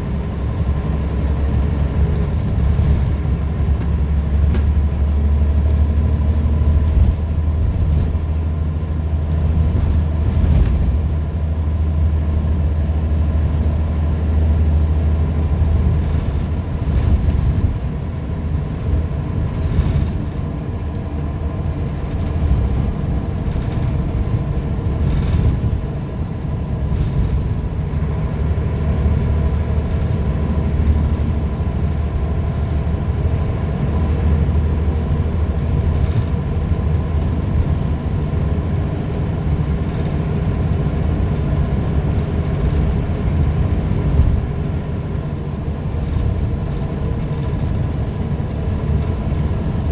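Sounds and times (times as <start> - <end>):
bus diesel engine drone: 0.0 - 49.9.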